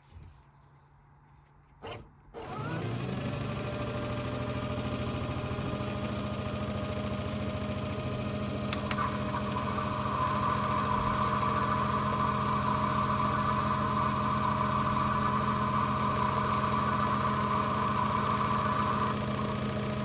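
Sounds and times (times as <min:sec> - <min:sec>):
toy washing machine running: 0:02.5 - 0:20.0.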